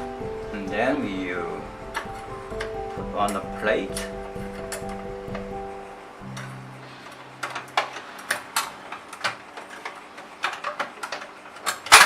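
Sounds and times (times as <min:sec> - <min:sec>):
low steady hum: 0:00.0 - 0:11.2.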